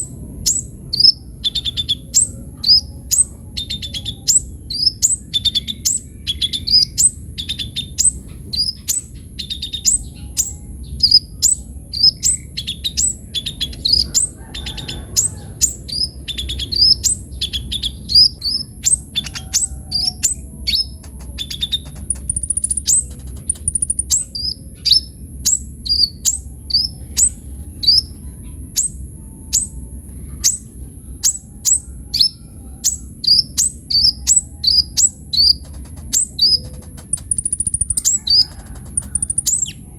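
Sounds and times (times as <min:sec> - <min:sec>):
bird chirping and twittering: 0:00.0 - 0:39.9
low background rumble: 0:00.0 - 0:39.9.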